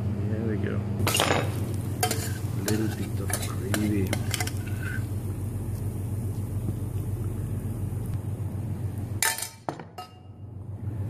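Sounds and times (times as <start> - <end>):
kitchen hum: 0.0 - 11.0.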